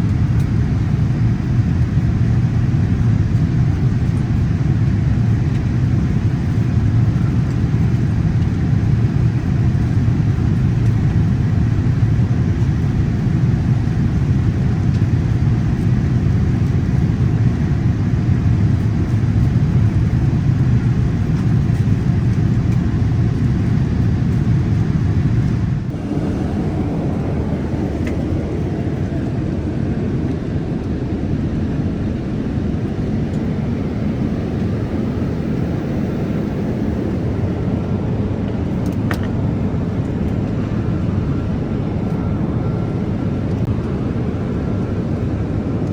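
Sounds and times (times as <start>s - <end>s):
airliner cabin low rumble: 0.0s - 45.9s.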